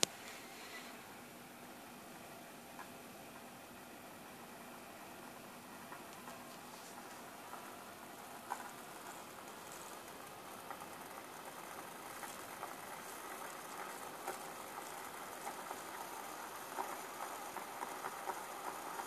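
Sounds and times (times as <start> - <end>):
crackles and pops: 0.0 - 0.4, 2.2 - 4.0, 5.0 - 19.0.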